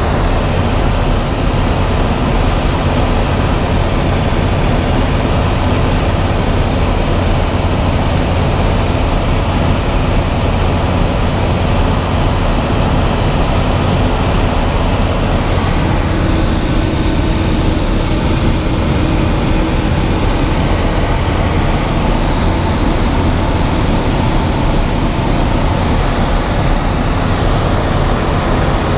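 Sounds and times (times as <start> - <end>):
aircraft engine and propeller droning: 0.0 - 28.9
rushing air: 0.0 - 28.9.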